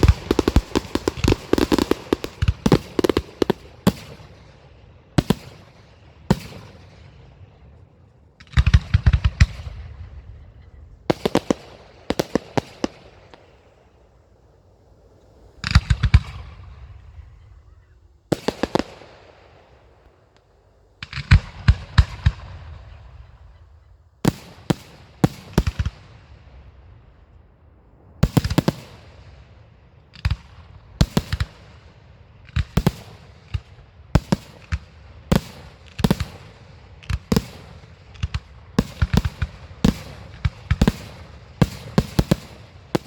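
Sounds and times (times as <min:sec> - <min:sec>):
firework bangs: 0:00.0 - 0:07.1, 0:08.4 - 0:27.2, 0:28.0 - 0:43.0
rumble and crackle: 0:00.0 - 0:43.0.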